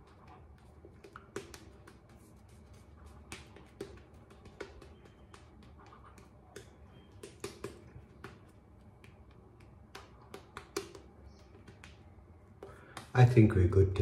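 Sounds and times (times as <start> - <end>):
shaving brush wet squishes: 0.0 - 12.1.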